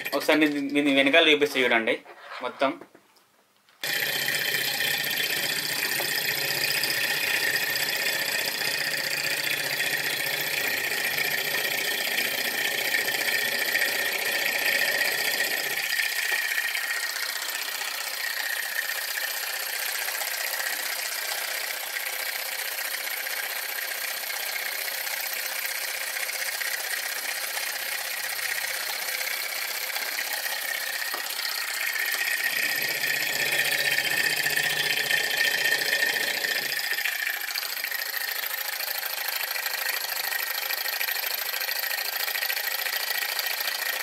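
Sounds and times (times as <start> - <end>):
model engine whirring and rattling: 0.0 - 1.0, 3.8 - 44.0.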